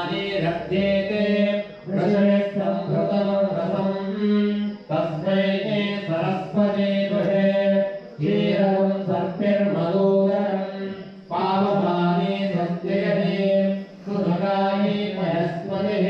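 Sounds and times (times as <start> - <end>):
devotional chanting: 0.0 - 16.0.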